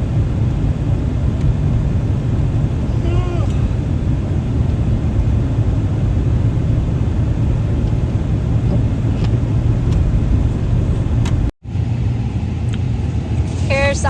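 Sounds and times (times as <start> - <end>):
car low rumble: 0.0 - 14.0.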